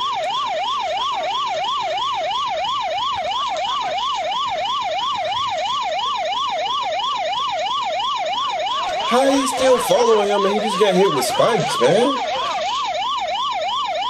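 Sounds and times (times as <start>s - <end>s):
police siren fast yelp: 0.0s - 14.0s.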